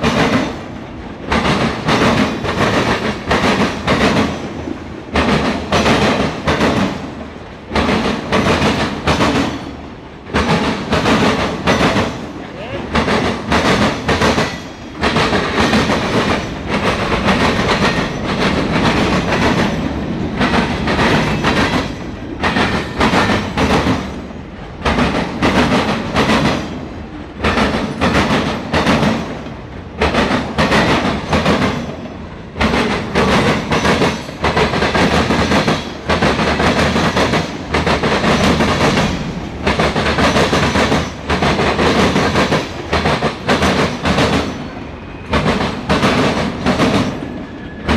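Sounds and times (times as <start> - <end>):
freight train wheels clacking: 0.0 - 47.9.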